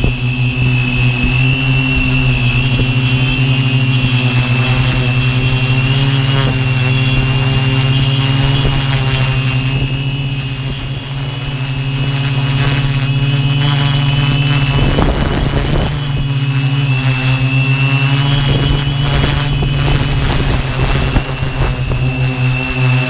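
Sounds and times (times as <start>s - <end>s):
drone motors and propellers: 0.0s - 23.0s.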